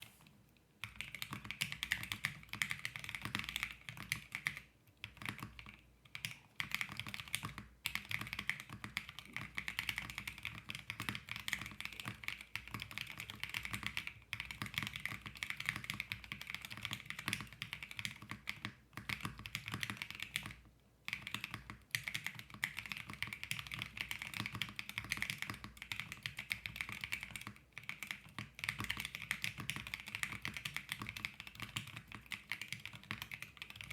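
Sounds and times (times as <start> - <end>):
mechanical keyboard typing: 0.8 - 33.9.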